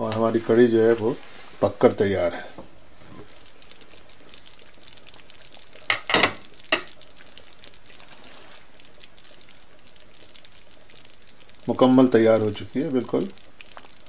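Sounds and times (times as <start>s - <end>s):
pot simmering soft bubbling: 0.0s - 14.0s.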